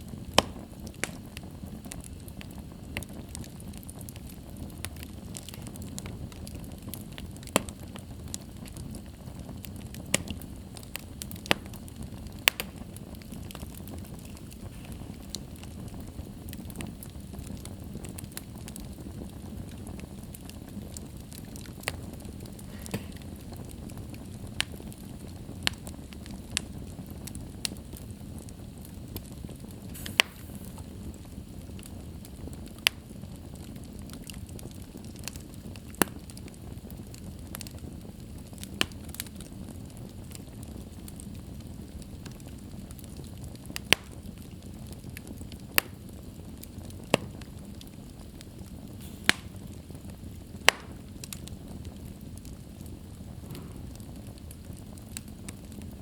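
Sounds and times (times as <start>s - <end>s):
fire crackles and pops: 0.0s - 56.0s
wood fire burning: 0.0s - 56.0s.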